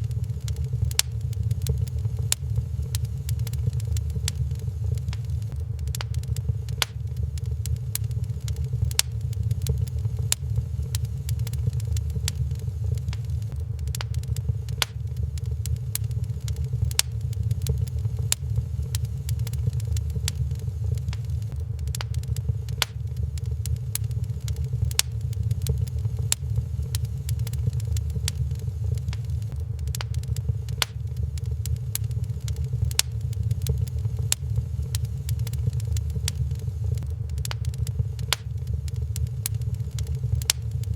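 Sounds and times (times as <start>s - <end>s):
steady low rumble: 0.0s - 40.9s
wood fire crackling and popping: 0.0s - 40.9s.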